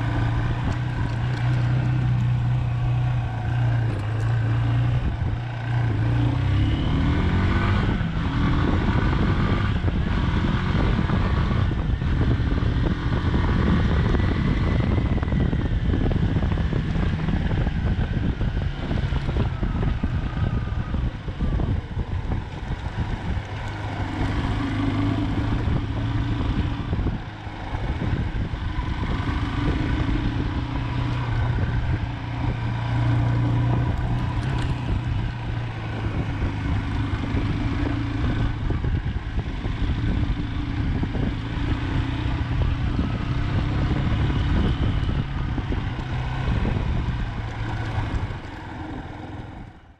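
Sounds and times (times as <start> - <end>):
motorcycle engine revving: 0.0 - 49.9
wind buffeting microphone: 0.0 - 49.9.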